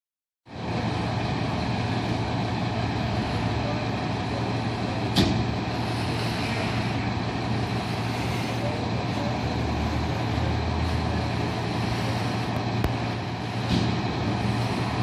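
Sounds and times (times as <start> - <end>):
heavy diesel engine running: 0.5 - 15.0.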